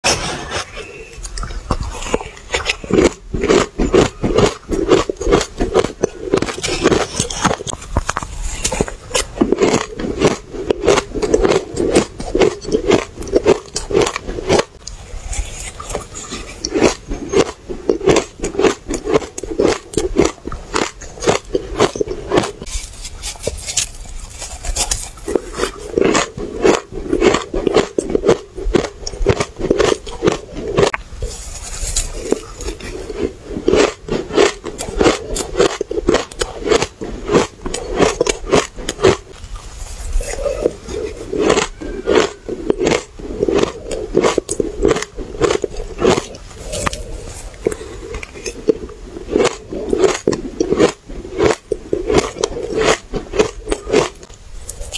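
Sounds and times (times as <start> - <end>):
chewing crunchy ice: 0.1 - 54.9.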